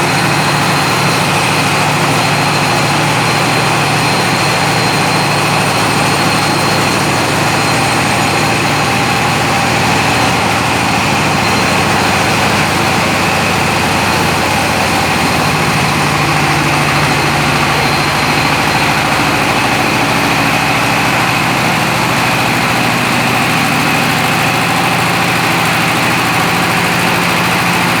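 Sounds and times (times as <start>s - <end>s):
diesel engine running: 0.0s - 28.0s
high machine whine: 0.0s - 28.0s.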